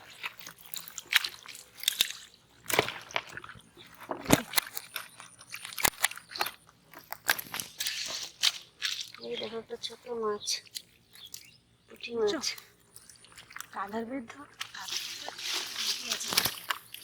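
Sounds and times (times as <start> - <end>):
hands squelching in wet mud: 0.0 - 9.5, 12.4 - 17.0.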